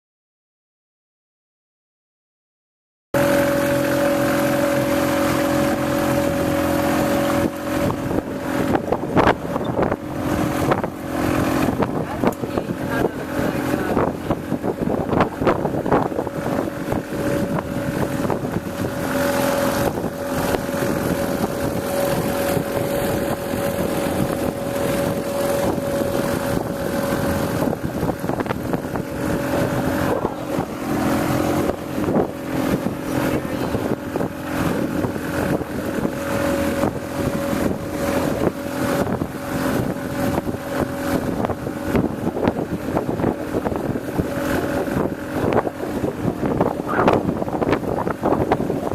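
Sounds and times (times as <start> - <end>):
motorboat engine running: 3.2 - 48.9
wind buffeting microphone: 3.2 - 48.9.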